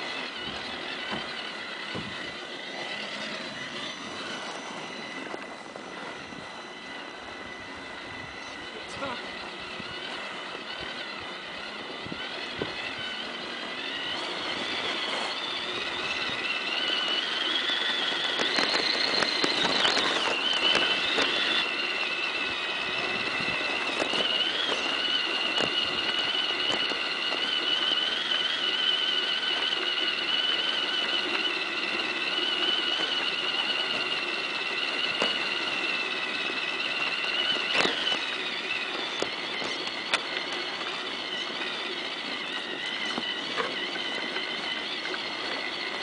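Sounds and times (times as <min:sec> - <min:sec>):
toy car motor whining: 0:00.0 - 0:46.0.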